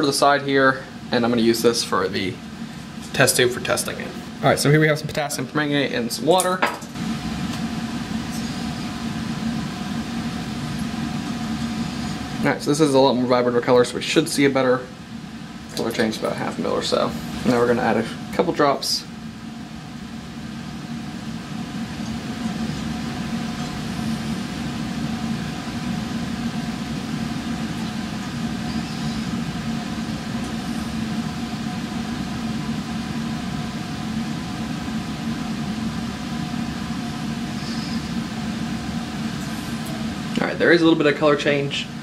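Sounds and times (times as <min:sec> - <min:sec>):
ventilation fan humming: 0:00.0 - 0:42.0.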